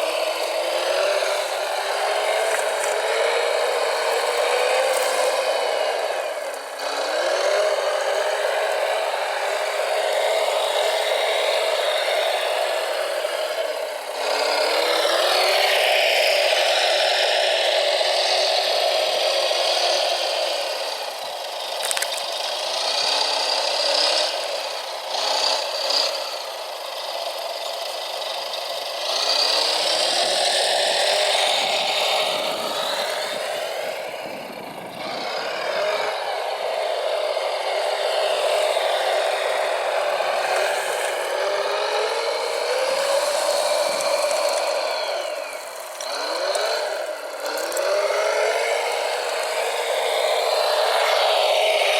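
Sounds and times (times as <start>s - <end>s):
small electric motors whining: 0.0s - 51.9s.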